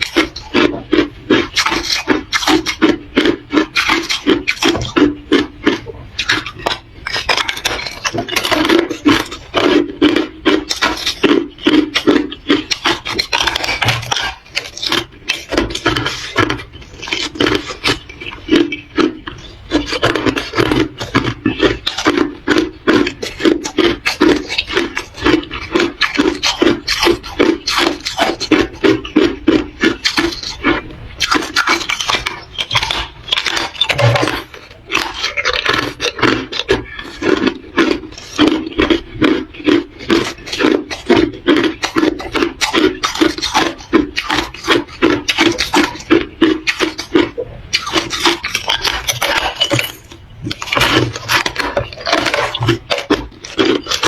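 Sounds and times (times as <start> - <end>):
crunchy chewing of ice: 0.0 - 54.0.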